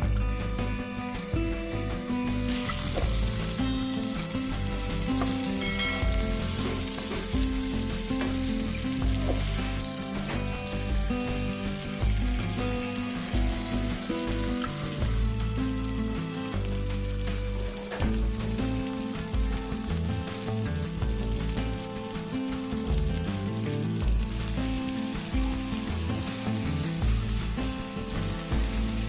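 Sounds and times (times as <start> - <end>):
food sizzling in a skillet: 0.2 - 29.0.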